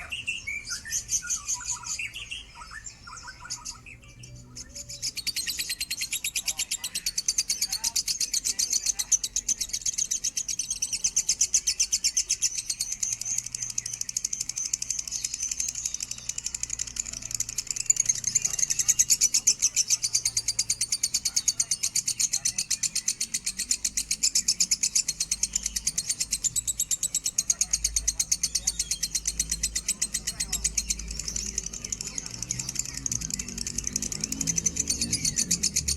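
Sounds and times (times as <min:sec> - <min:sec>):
lovebird chattering song: 0:00.0 - 0:35.9.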